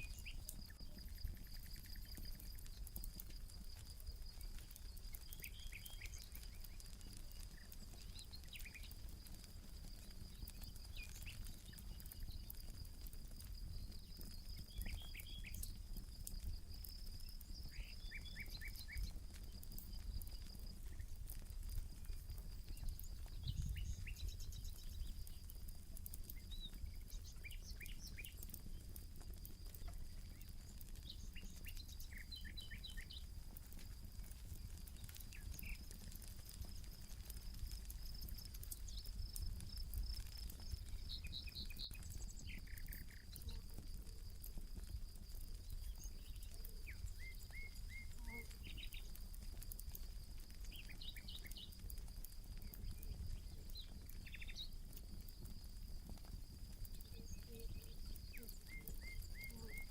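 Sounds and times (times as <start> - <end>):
campfire crackling and popping: 0.0 - 59.9
songbirds chirping: 0.0 - 59.9.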